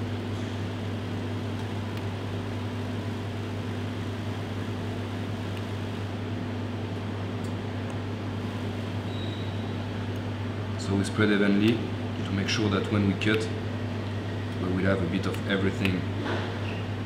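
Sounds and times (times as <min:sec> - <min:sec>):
ventilation system humming: 0:00.0 - 0:17.0.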